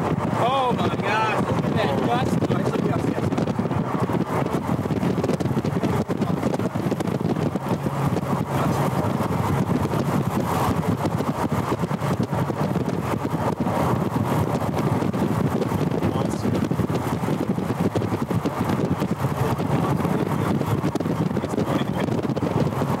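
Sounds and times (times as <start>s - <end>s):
car road and engine noise: 0.0s - 23.0s
wind buffeting microphone: 0.0s - 23.0s.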